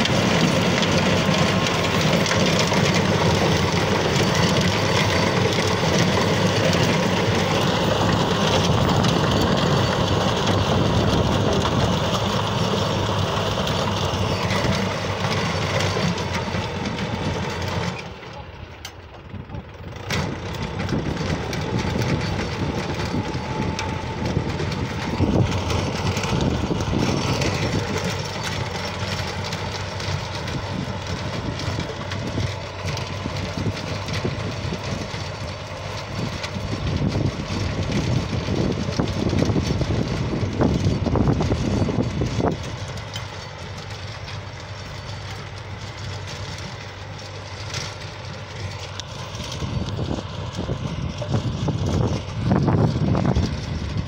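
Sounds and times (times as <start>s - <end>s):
tractor and tiller rumble: 0.0s - 54.0s.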